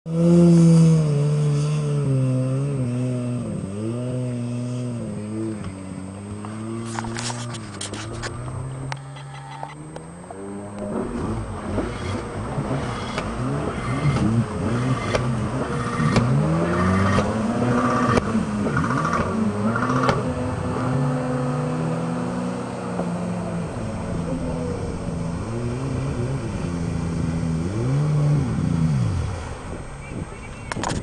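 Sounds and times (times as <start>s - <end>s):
jet ski engine revving: 0.1s - 31.0s.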